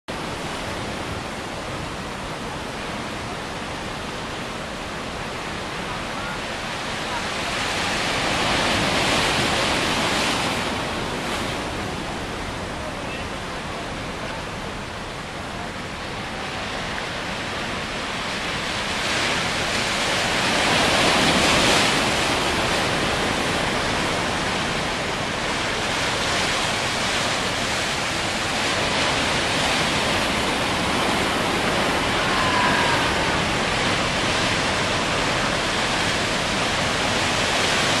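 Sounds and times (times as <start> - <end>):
small waves breaking on shore: 0.1 - 38.0.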